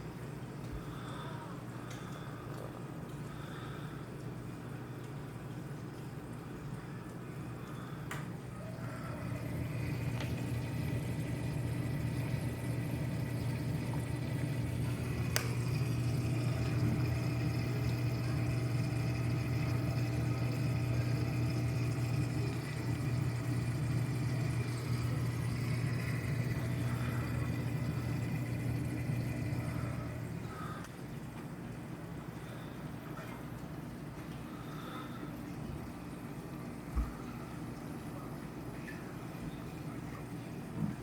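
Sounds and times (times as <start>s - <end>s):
pump humming: 0.0s - 41.0s.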